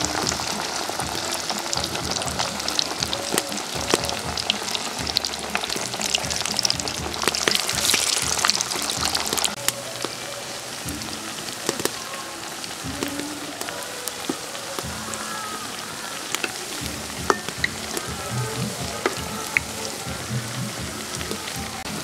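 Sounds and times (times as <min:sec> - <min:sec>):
fritters sizzling in hot oil: 0:00.0 - 0:22.0.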